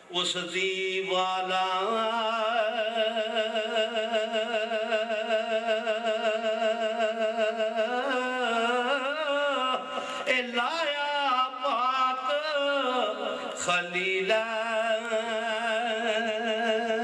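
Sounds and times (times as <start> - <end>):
man chanting unaccompanied: 0.0 - 17.0.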